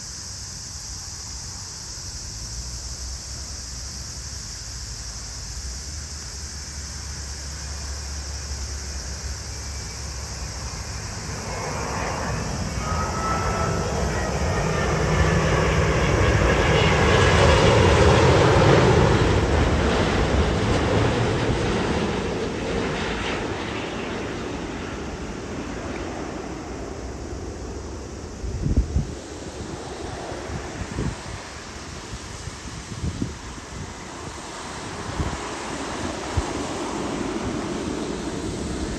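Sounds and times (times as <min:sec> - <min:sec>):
steady background hiss: 0:00.0 - 0:38.9
jet airliner passing overhead: 0:00.2 - 0:38.9.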